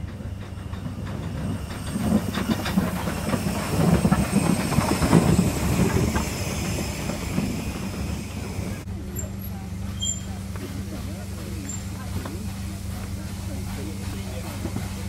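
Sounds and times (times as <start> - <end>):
steam hissing: 0.0 - 15.0
steam locomotive passing: 0.0 - 15.0
wheels clanking on rails: 0.0 - 15.0.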